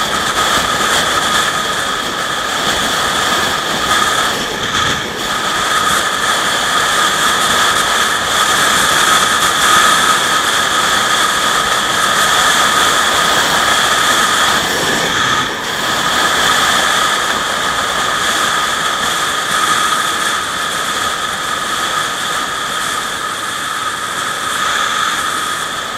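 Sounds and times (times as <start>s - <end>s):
constant high whine: 0.0s - 25.9s
road and engine noise: 0.0s - 25.9s.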